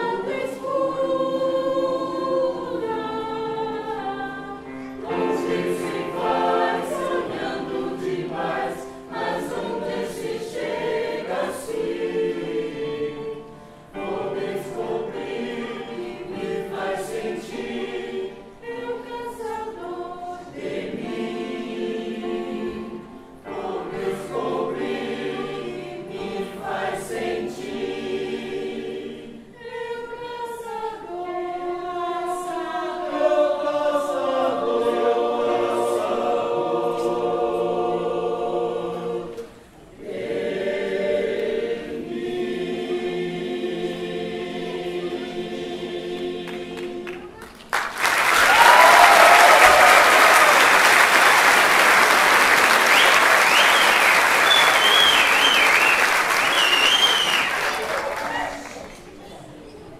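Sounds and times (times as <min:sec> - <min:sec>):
mixed choir singing: 0:00.0 - 0:59.4.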